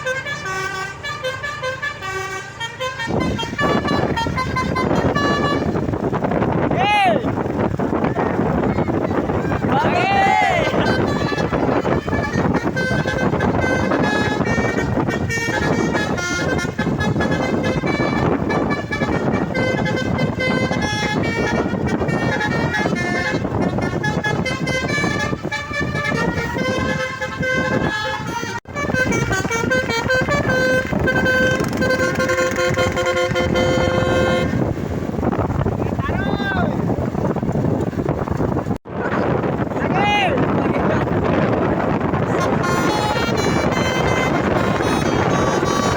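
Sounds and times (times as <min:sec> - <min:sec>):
musical air horn tooting: 0:00.0 - 0:06.7, 0:08.3 - 0:35.3, 0:41.1 - 0:45.9
truck engine running: 0:00.0 - 0:36.0, 0:40.4 - 0:45.9
loud steady rumble: 0:00.0 - 0:45.9.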